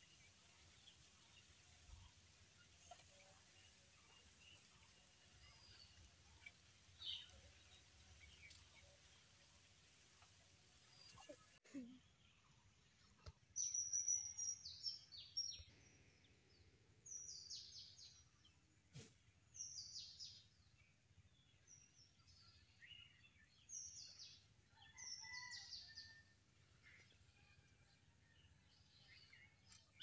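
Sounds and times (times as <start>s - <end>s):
faint outdoor background noise: 0.0s - 30.0s
songbird chirping: 0.0s - 30.0s.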